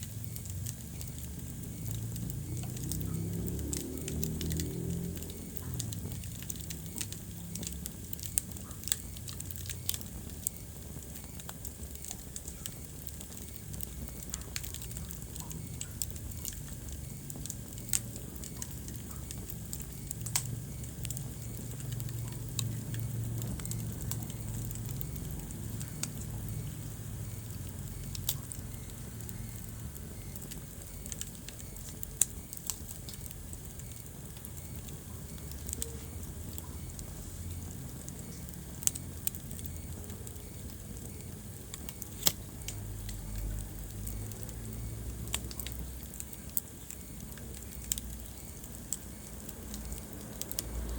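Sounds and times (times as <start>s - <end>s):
low rumble of flames: 0.0s - 50.9s
wood fire crackling: 0.0s - 50.9s.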